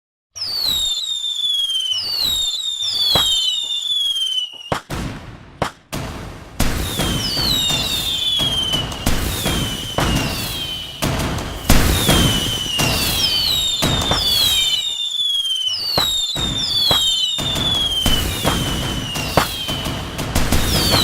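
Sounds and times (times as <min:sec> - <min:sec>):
fireworks bangs and crackles: 0:00.4 - 0:21.0
fireworks whistles: 0:00.4 - 0:21.0.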